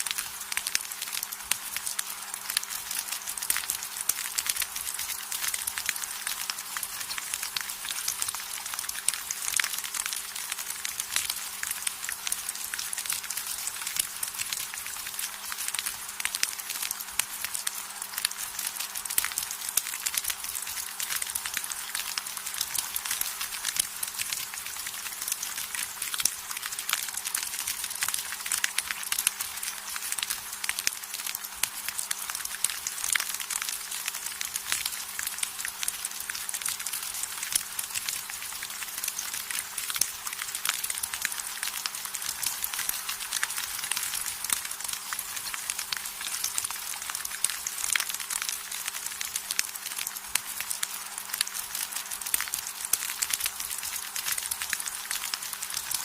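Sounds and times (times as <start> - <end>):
rain hiss: 0.0 - 56.0
raindrops ticking on surfaces: 0.0 - 56.0.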